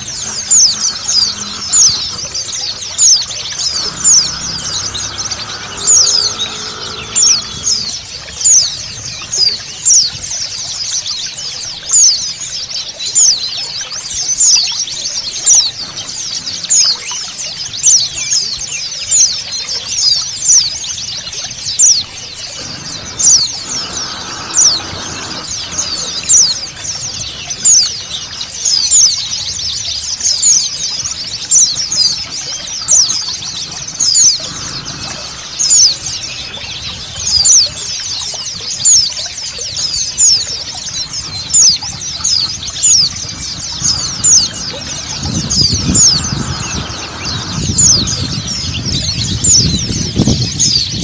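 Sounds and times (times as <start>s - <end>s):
birds twittering: 0.0s - 51.0s
flowing water: 0.0s - 51.0s.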